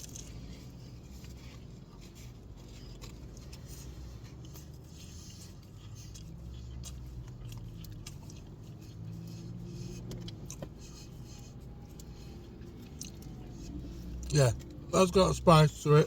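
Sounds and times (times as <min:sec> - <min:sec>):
small wet clicks and rustles: 0:00.0 - 0:14.8
man chewing food: 0:00.0 - 0:14.9.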